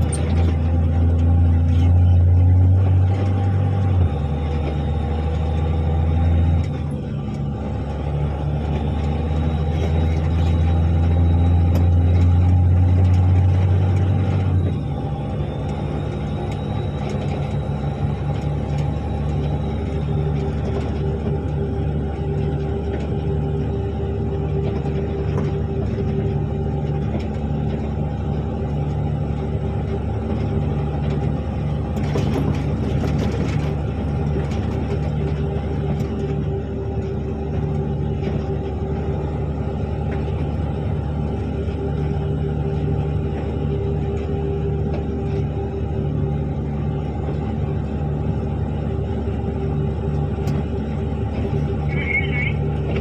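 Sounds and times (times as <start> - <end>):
truck engine droning: 0.0 - 53.0
rattling in cab: 6.4 - 53.0.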